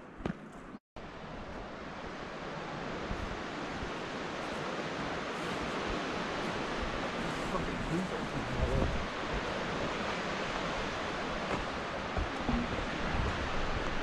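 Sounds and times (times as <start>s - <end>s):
ocean surf washing: 1.0s - 14.0s.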